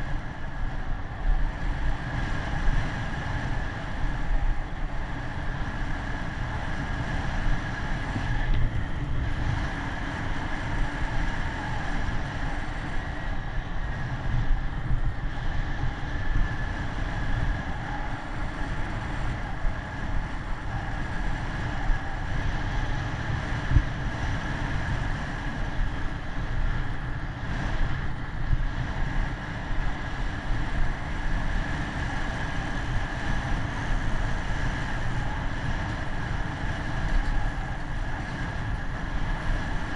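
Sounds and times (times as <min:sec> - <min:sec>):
bicycle road rumble: 0:00.0 - 0:39.9
steady high whine: 0:00.0 - 0:39.9
wind rushing over microphone: 0:00.0 - 0:39.9.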